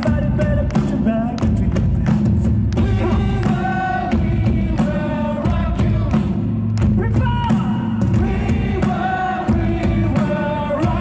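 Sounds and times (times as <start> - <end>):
drum hits: 0.0 - 11.0
live band playing amplified music: 0.0 - 11.0.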